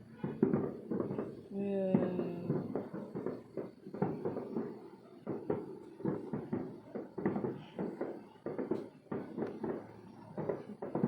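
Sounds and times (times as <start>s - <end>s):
distant fireworks popping: 0.0s - 11.0s.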